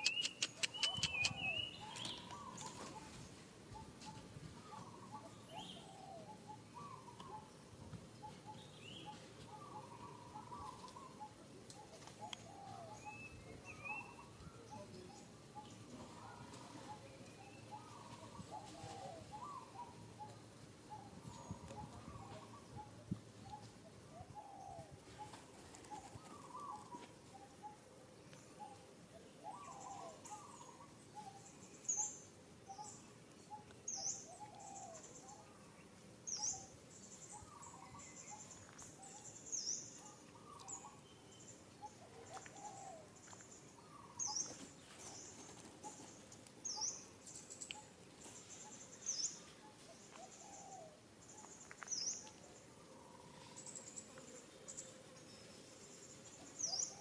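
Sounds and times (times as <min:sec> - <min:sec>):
soft bird chirping: 0:00.0 - 0:57.0.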